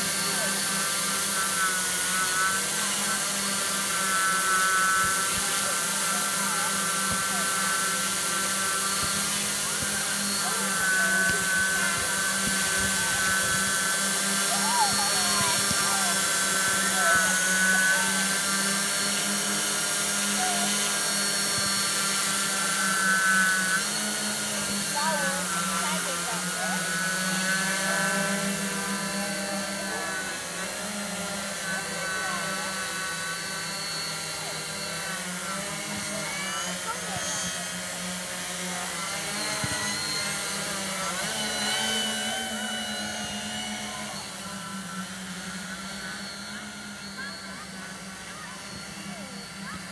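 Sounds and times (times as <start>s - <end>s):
drone propeller hum: 0.0s - 49.9s
motor whine: 0.0s - 49.9s.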